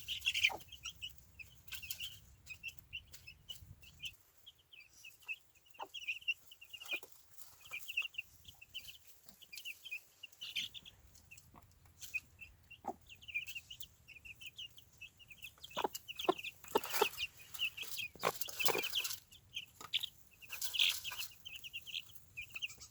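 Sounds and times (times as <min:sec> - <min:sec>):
chicks peeping: 0:00.0 - 0:22.9.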